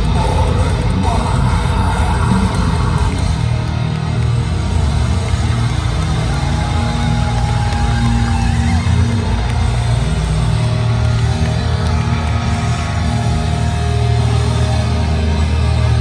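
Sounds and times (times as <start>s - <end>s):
live death metal band: 0.0s - 16.0s.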